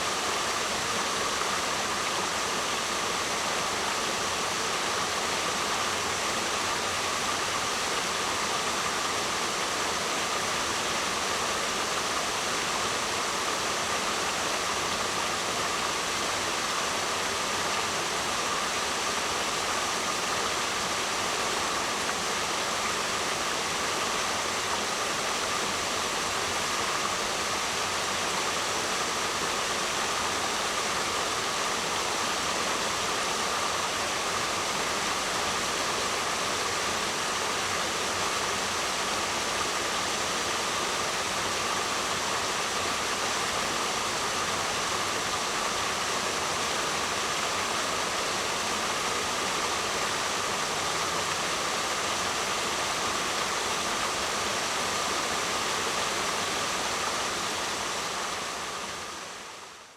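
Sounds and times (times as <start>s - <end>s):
waterfall rushing: 0.0s - 59.8s.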